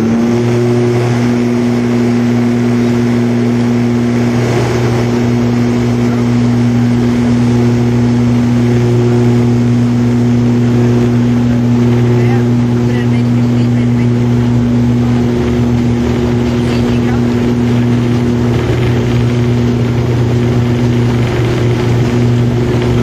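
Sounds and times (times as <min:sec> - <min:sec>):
engine and air rush: 0:00.0 - 0:23.0
propellers droning: 0:00.0 - 0:23.0.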